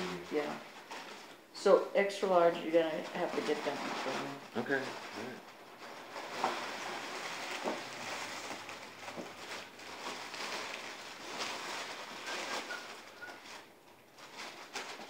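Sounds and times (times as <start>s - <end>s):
paper bag rustling: 2.9s - 15.0s.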